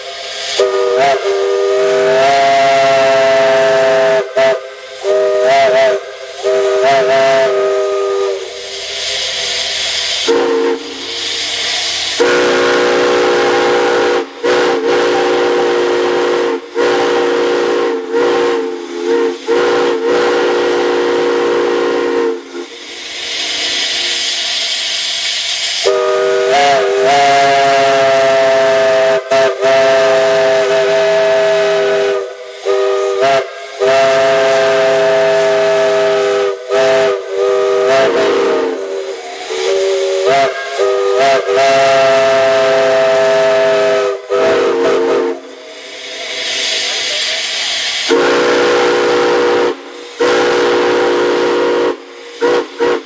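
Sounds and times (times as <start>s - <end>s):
steam whistle chord blasts: 0.0s - 24.9s, 25.5s - 47.0s, 47.8s - 53.0s
steam hissing: 0.0s - 53.0s.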